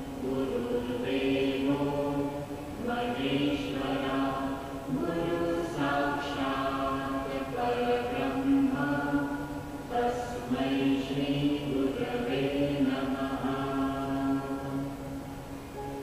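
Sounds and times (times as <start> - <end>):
voices chanting long notes: 0.0 - 16.0.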